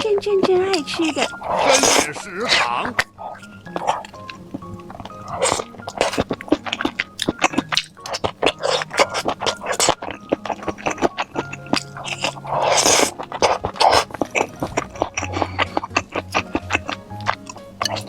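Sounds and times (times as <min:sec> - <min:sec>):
quiet background music: 0:00.0 - 0:18.0
wet chewing and smacking: 0:00.0 - 0:18.0.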